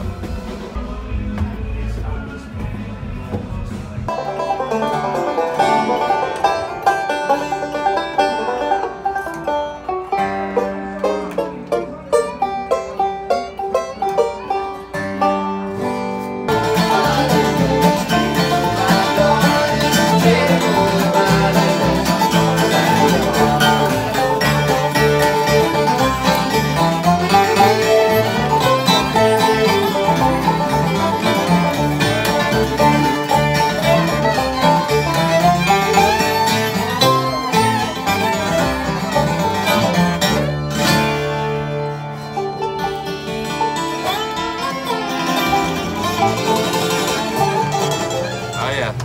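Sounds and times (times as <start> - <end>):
acoustic guitar: 0.0 - 49.0
dobro: 0.0 - 49.0
upright bass: 0.0 - 49.0
banjo picking: 3.3 - 49.0
fiddle: 4.0 - 49.0.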